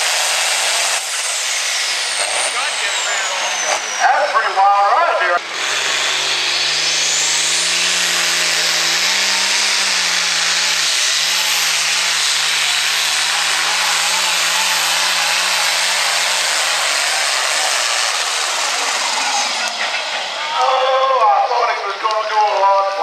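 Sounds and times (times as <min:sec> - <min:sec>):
diesel engine running flat out: 0:00.0 - 0:23.0
high turbo whine: 0:00.0 - 0:23.0.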